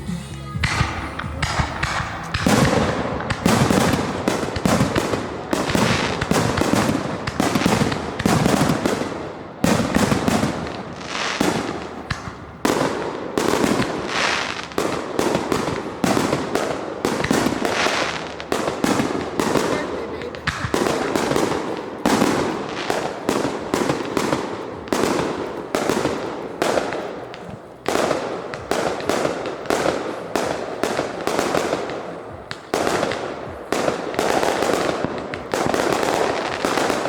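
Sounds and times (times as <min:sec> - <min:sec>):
fireworks exploding: 0:00.0 - 0:37.0.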